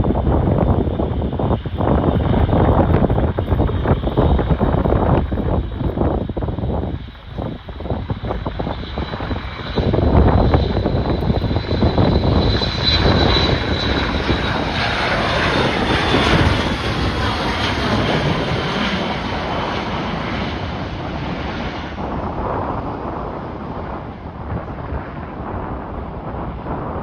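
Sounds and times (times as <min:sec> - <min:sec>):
jet engines passing with whine: 0:00.0 - 0:27.0
wind buffeting microphone: 0:00.0 - 0:27.0.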